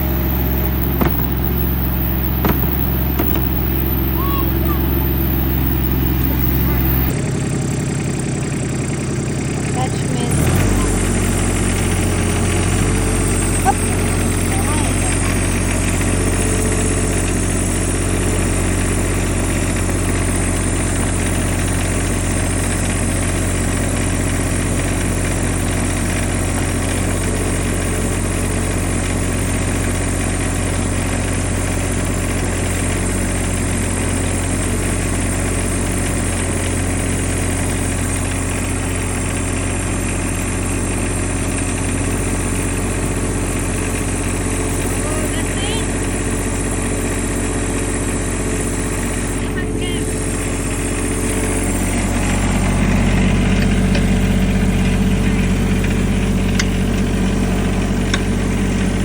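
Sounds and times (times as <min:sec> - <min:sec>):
skid steer engine running: 0:00.0 - 0:59.0.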